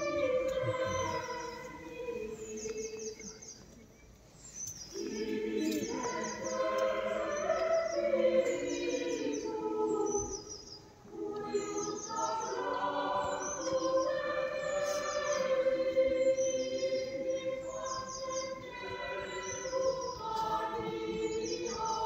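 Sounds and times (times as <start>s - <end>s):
choir singing unaccompanied: 0.0s - 3.6s, 4.9s - 22.0s
small birds chirping trills: 0.0s - 22.0s.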